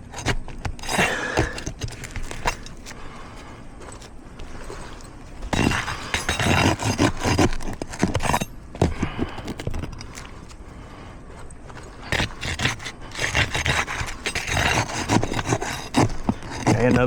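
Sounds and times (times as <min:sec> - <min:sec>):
metal bar scraping under shingle: 0:00.0 - 0:17.0.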